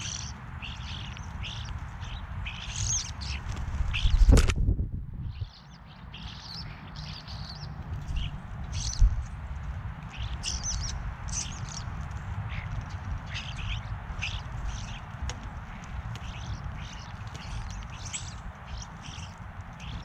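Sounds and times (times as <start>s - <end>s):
starlings chirping and whistling: 0.0s - 4.5s, 5.2s - 20.0s
steady low rumble: 0.0s - 20.0s.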